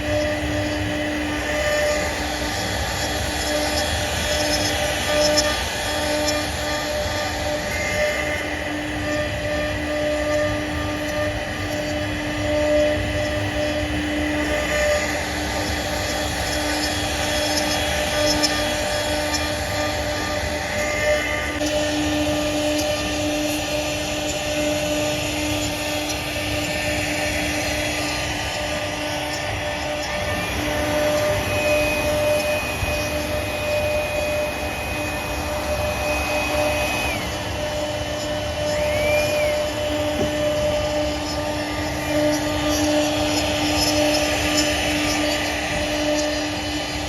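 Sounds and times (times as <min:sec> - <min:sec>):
router spindle whining: 0:00.0 - 0:47.0
wood cutting hiss: 0:00.0 - 0:47.0.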